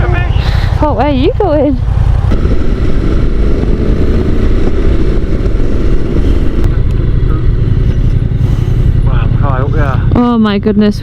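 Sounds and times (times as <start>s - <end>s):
motorcycle engine running: 0.0s - 11.0s
wind rush on microphone: 0.4s - 9.3s.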